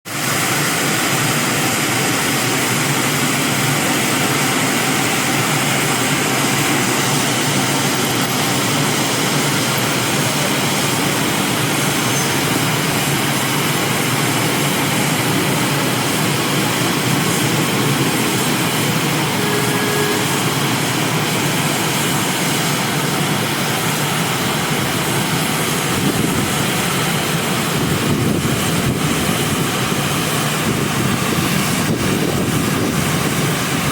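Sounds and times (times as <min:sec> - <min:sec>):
car wash machine rushing: 0:00.0 - 0:33.9.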